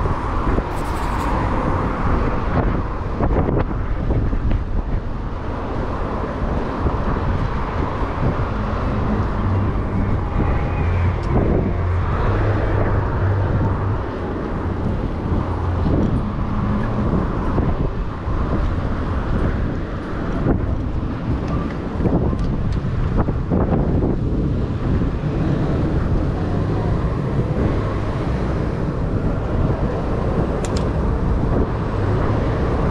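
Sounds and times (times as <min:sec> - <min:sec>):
cars passing: 0:00.0 - 0:32.9
wind rumbling on microphone: 0:00.0 - 0:32.9.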